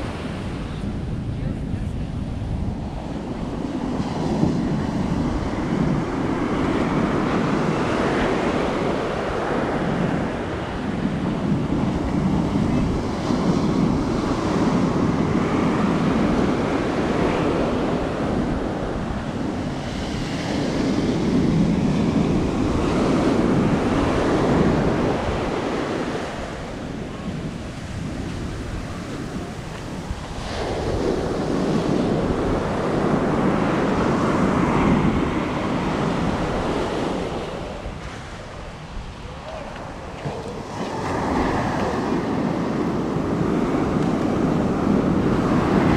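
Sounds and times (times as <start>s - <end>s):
surf breaking on beach: 0.0s - 45.9s
wind buffeting microphone: 0.0s - 45.9s.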